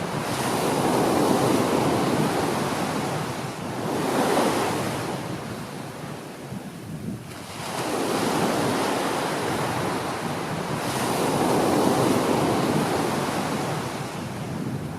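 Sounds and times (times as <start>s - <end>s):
small waves washing onto beach: 0.0s - 14.9s.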